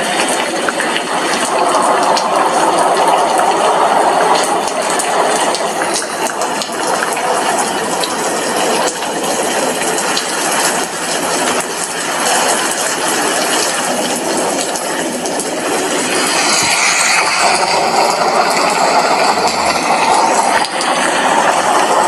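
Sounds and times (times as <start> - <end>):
heavy rain on window glass: 0.0 - 22.0.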